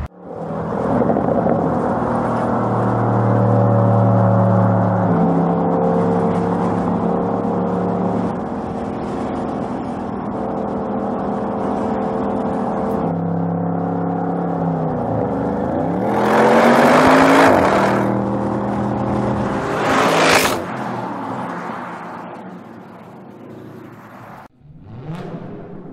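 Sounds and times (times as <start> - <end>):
car engine revving and accelerating: 0.0 - 25.9.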